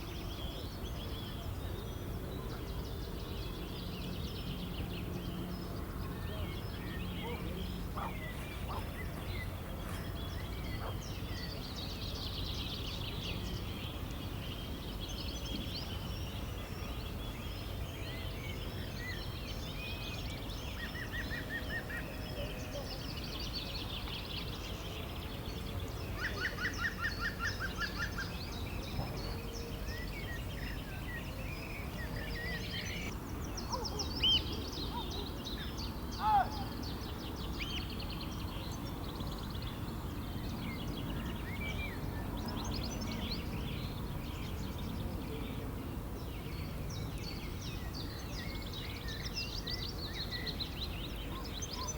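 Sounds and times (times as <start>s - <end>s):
birds singing and chirping: 0.0s - 51.9s.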